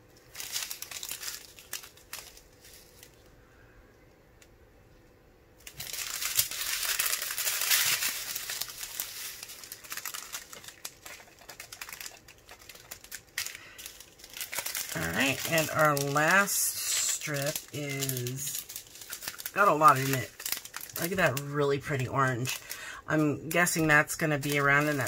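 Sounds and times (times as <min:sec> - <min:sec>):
plastic bags crinkling: 0:00.0 - 0:03.3, 0:05.6 - 0:25.0.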